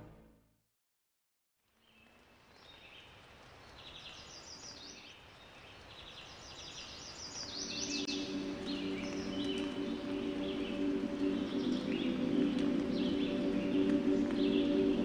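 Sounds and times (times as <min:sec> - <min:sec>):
songbirds chirping: 0:01.7 - 0:15.0
steady background hiss: 0:02.3 - 0:15.0.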